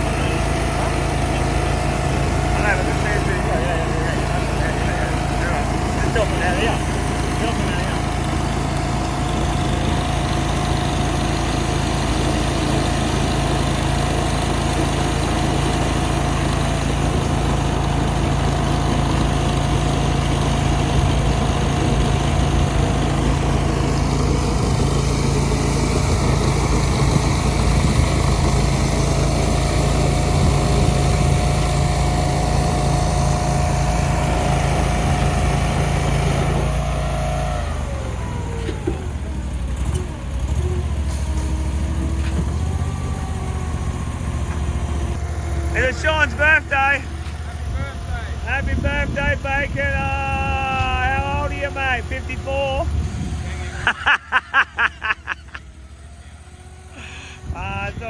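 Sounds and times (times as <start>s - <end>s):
engine running and winding down: 0.0s - 58.0s.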